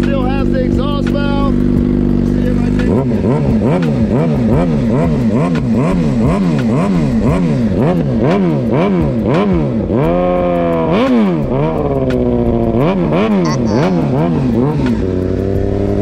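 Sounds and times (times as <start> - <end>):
motorcycle engine revving: 0.7 - 16.0.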